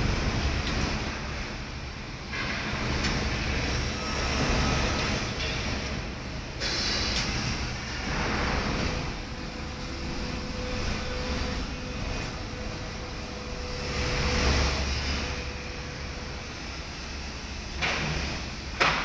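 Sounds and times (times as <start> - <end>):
motor whine: 0.0 - 18.8
tram wheels rumbling on track: 0.0 - 19.0.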